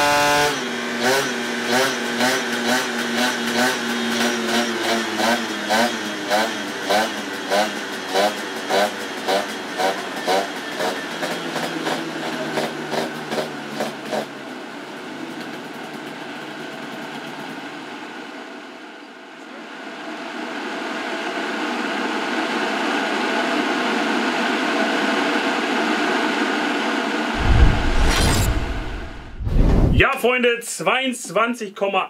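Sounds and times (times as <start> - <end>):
two-stroke engine on dyno: 0.0 - 18.7, 19.9 - 27.4.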